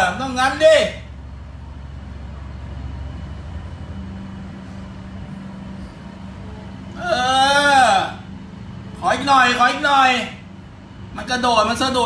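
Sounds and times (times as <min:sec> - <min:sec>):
low mechanical rumble: 0:00.0 - 0:12.0
steady hum: 0:00.0 - 0:12.0.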